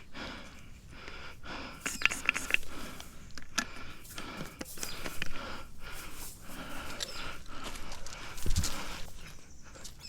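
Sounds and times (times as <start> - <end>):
person breathing: 0.0 - 10.0.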